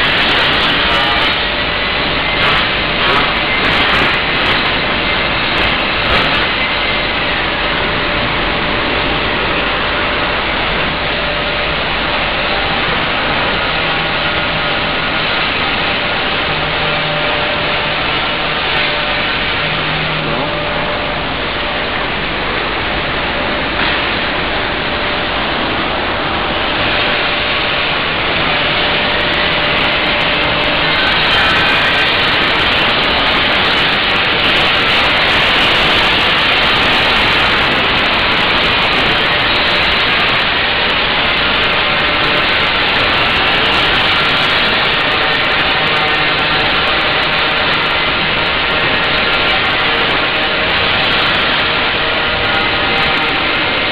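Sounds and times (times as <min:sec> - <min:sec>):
factory machinery din: 0:00.0 - 0:53.9.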